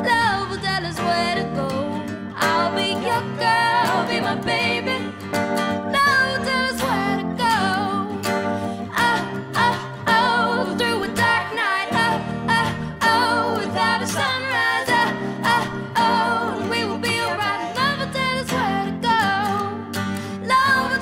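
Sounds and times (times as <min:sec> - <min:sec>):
woman singing: 0:00.0 - 0:05.2, 0:05.8 - 0:21.0
strummed acoustic guitar: 0:00.0 - 0:21.0.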